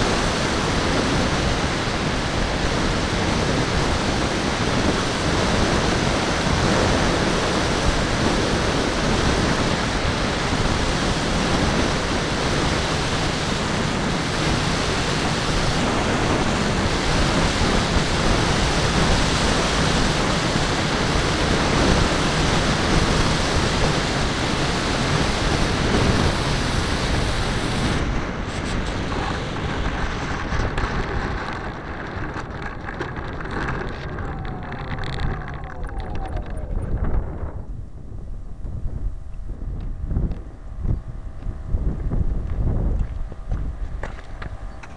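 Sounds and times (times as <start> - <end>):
model airplane motor: 0.0 - 37.5
wind rushing: 0.0 - 44.0.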